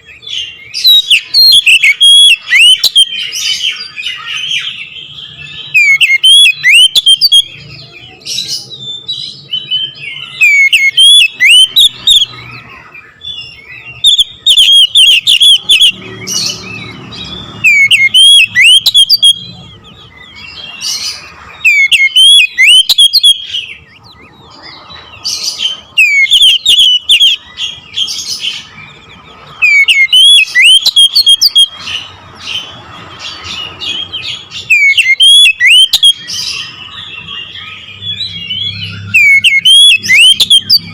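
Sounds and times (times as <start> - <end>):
bird singing whistled notes: 0.0 - 40.9
soft bird twittering: 0.0 - 40.9.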